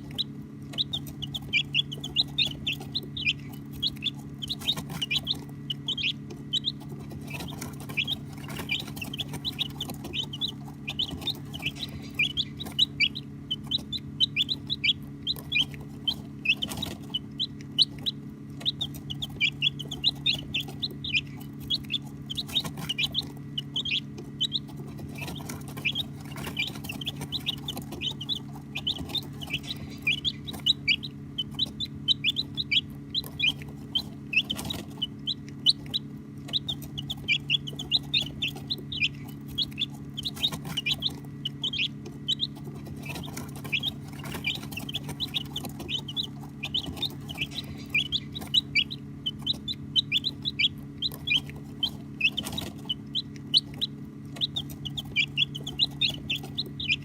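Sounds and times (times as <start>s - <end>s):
baby chicks peeping: 0.0s - 57.0s
low hum: 0.0s - 57.0s.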